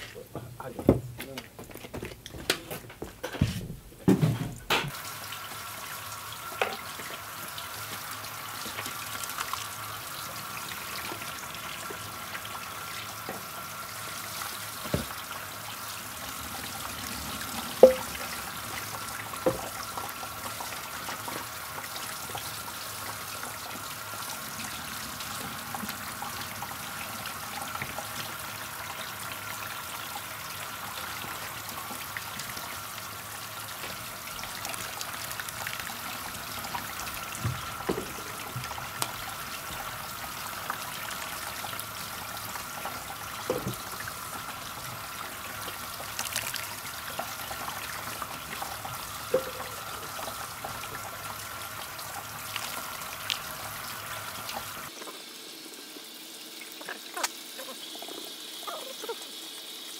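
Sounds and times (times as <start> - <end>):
liquid trickling and pouring: 4.9 - 59.9.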